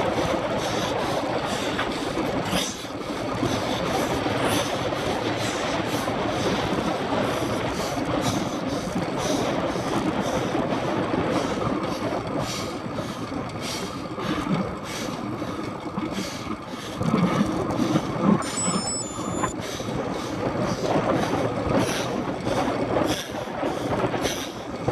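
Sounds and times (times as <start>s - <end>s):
wind rushing over microphone: 0.0s - 15.8s, 16.6s - 24.9s.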